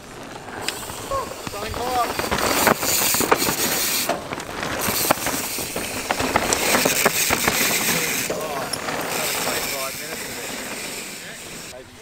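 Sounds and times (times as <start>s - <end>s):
bike rattling clicks and knocks: 0.0s - 11.7s
tyres rushing over loose ground: 0.0s - 11.8s.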